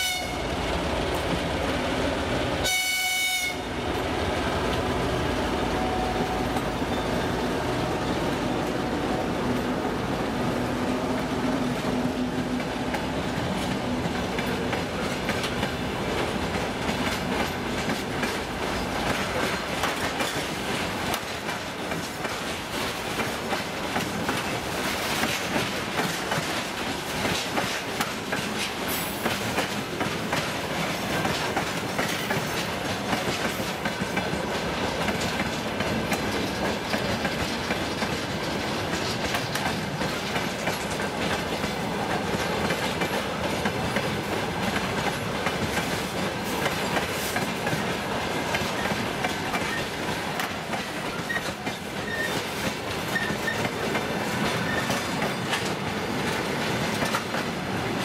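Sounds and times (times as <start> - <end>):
freight train rumble: 0.0 - 58.0
train wheels clicking over rail joints: 9.5 - 58.0.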